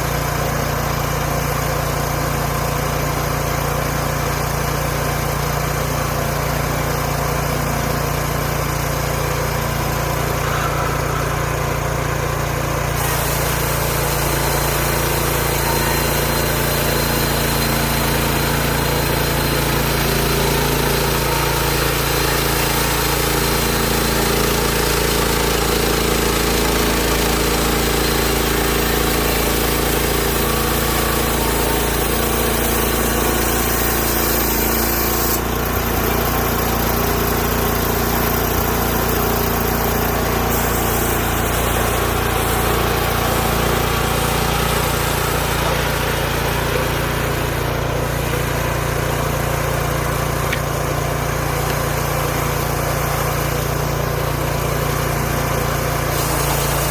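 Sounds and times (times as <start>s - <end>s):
sawmill gas engine running: 0.0s - 56.9s.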